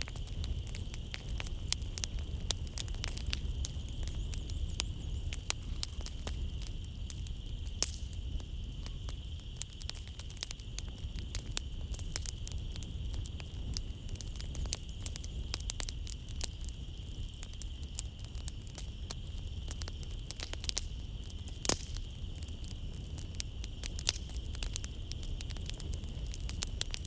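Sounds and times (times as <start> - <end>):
night insects chirring: 0.0 - 27.0
wood fire crackling: 0.0 - 27.0.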